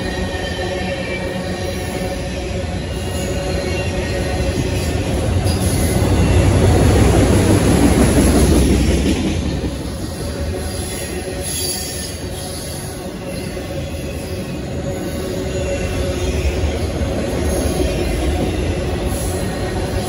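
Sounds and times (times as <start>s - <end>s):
freight cars rumbling on rails: 0.0s - 20.0s.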